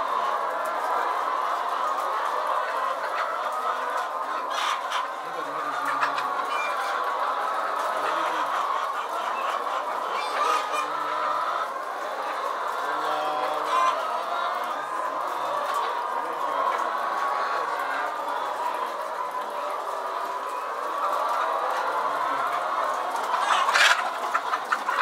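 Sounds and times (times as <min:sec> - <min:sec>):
hens clucking and squawking: 0:00.0 - 0:25.0.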